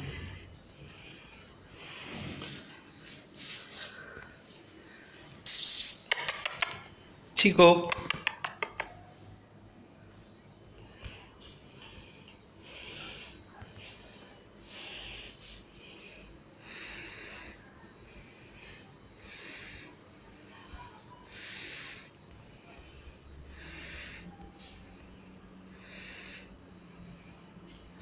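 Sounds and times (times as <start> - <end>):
slow rhythmic breathing: 0.0 - 5.5, 8.6 - 28.0.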